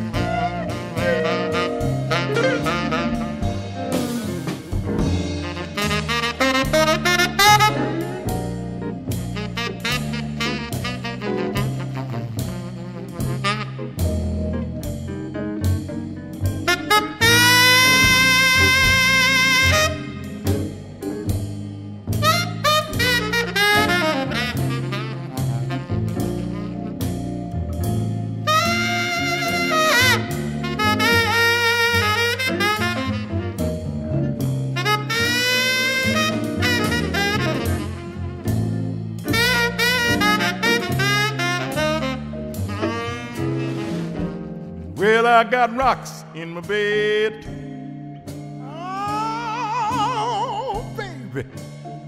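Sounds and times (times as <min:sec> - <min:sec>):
blues saxophone: 0:00.0 - 0:15.1, 0:15.8 - 0:52.0
bass line: 0:00.0 - 0:52.0.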